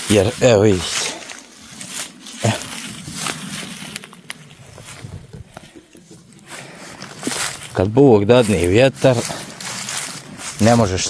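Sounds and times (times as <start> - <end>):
footsteps through tall grass: 0.0 - 11.0.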